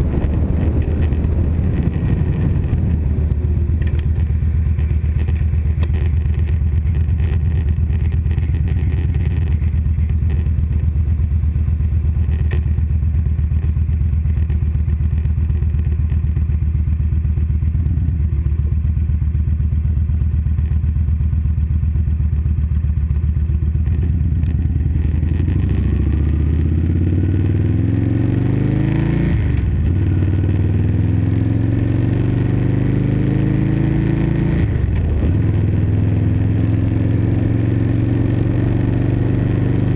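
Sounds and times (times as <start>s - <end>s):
motorcycle engine idling and accelerating: 0.0s - 39.9s.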